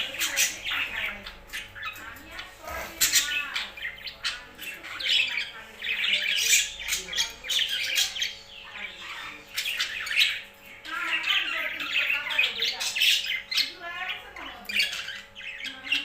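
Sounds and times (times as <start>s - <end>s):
birds squawking and chirping: 0.0s - 16.0s.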